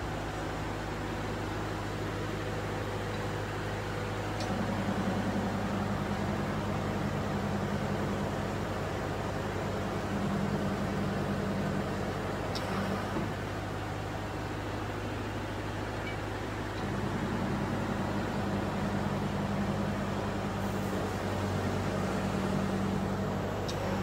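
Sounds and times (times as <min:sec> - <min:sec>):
hydraulic pump motor humming: 0:01.8 - 0:24.0.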